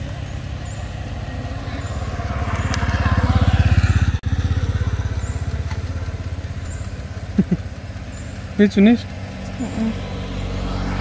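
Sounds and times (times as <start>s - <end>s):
motor scooter engine idling: 0.0s - 11.0s
passing traffic rushing: 0.0s - 11.0s.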